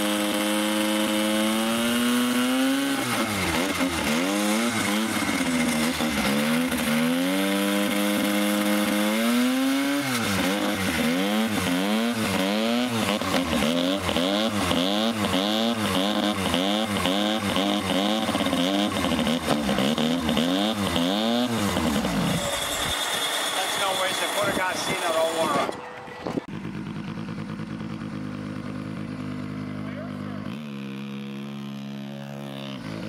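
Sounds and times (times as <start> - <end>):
kart engine revving: 0.0 - 33.0.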